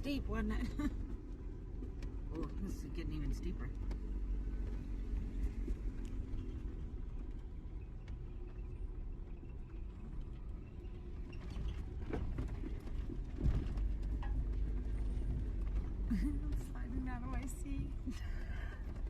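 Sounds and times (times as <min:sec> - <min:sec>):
vehicle engine and tyres rumbling: 0:00.0 - 0:19.0.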